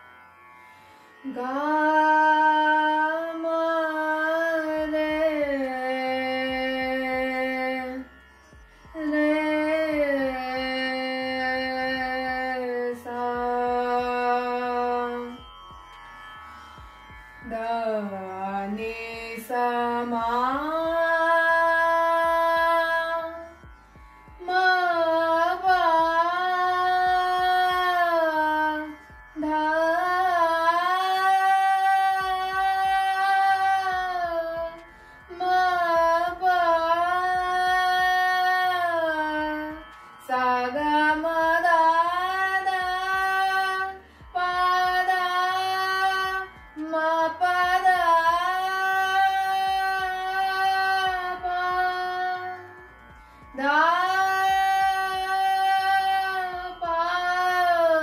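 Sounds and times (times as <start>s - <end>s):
woman singing: 1.2s - 8.1s, 8.9s - 15.4s, 17.4s - 23.6s, 24.4s - 52.8s, 53.5s - 58.0s.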